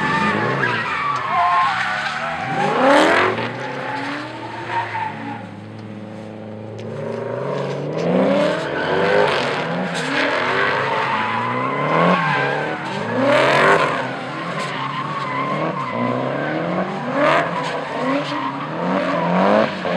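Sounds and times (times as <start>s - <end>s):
car engines revving: 0.0s - 19.9s.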